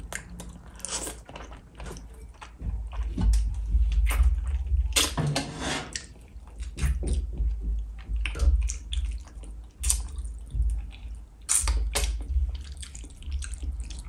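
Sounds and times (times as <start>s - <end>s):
wet chewing and lip-smacking: 0.0s - 5.2s, 6.0s - 14.0s.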